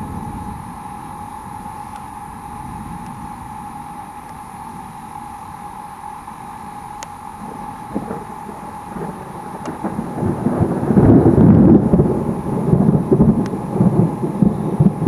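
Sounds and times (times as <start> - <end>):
thunder rumbling and crackling: 0.0 - 15.0.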